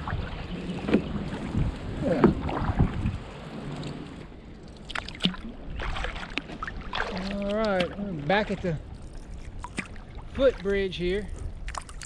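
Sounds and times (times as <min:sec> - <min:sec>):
paddle strokes splashing water: 0:00.0 - 0:12.0.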